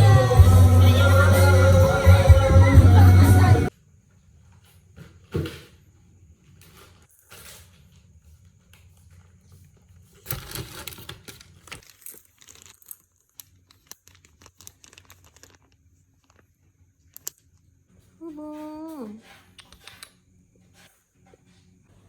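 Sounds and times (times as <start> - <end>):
faint rustling and crinkling: 3.9 - 22.0.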